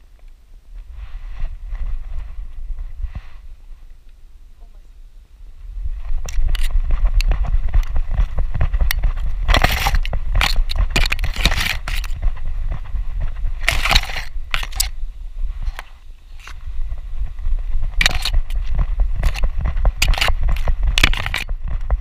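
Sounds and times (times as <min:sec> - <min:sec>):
grass scraping against camera: 0:00.0 - 0:04.2, 0:05.8 - 0:22.0
steady low rumble: 0:00.0 - 0:22.0.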